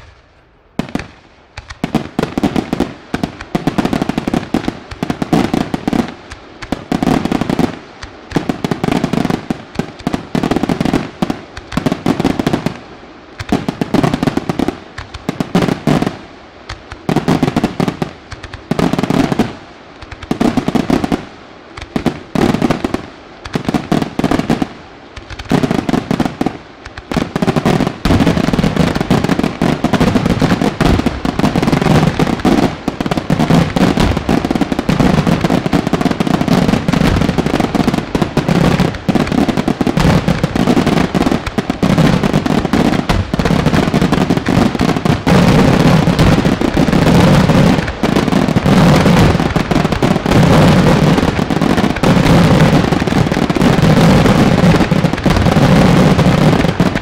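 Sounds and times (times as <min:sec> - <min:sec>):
firework shells bursting: 0:00.8 - 0:57.0.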